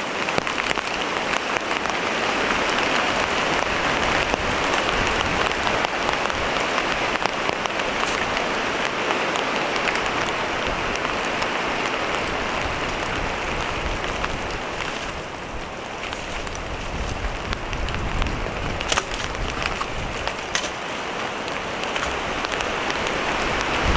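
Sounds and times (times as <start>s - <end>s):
heavy rain with drop hits: 0.0s - 23.9s.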